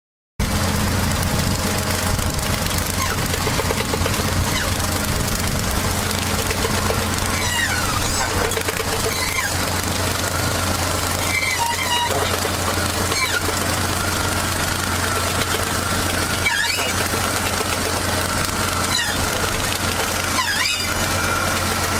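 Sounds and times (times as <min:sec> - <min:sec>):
farm machine engine droning: 0:00.4 - 0:21.9.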